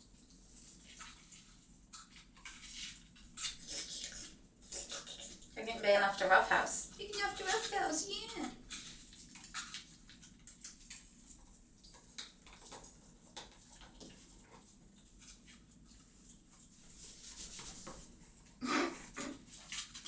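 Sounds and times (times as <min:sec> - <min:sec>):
kittens scuffling and pattering: 0:00.0 - 0:20.0.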